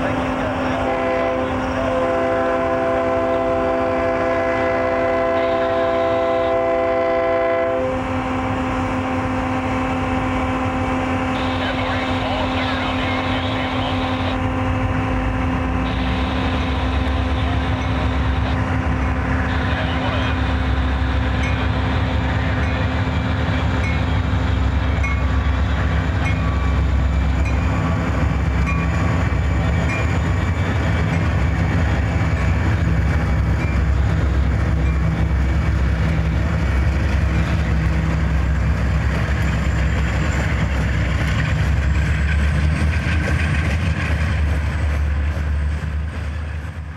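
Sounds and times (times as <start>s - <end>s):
diesel locomotive engine drone: 0.0s - 46.9s
train wheels on rails: 0.0s - 46.9s.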